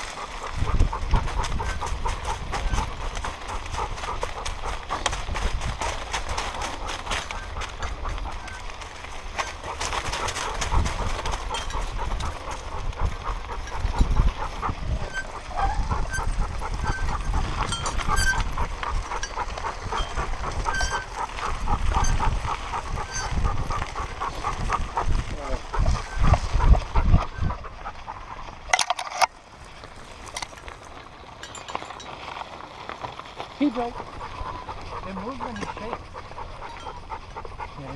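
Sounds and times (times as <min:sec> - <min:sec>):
dog panting: 0:00.0 - 0:28.7, 0:33.0 - 0:37.9
wind rumble: 0:00.0 - 0:37.8.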